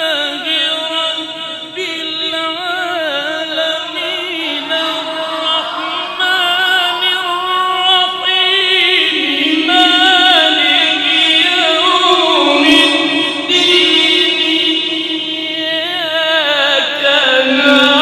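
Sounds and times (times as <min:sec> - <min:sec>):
man chanting melodically: 0:00.0 - 0:18.0.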